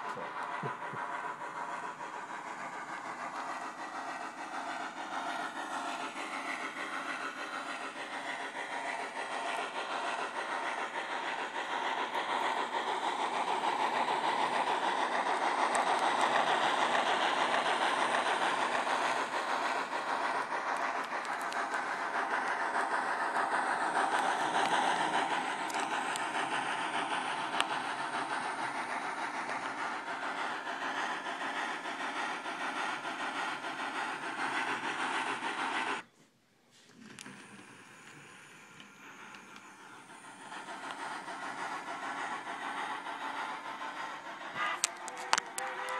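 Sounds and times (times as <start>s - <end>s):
model train steam chuffing: 0.0s - 45.9s.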